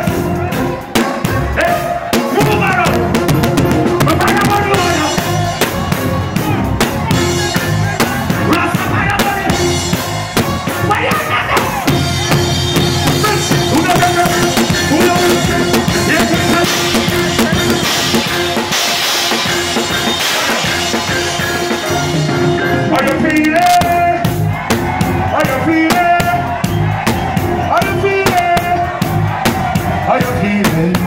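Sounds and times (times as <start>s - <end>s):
drums and cymbals: 0.0s - 31.0s
live reggae band playing: 0.0s - 31.0s.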